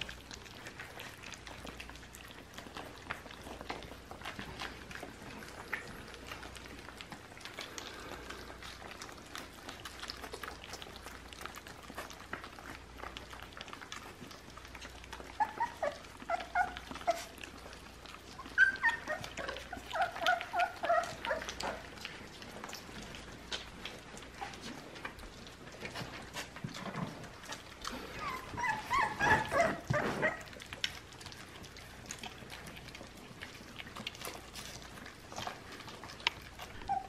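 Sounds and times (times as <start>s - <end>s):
puppies sucking and smacking: 0.0s - 37.0s
puppies whimpering: 0.0s - 37.0s.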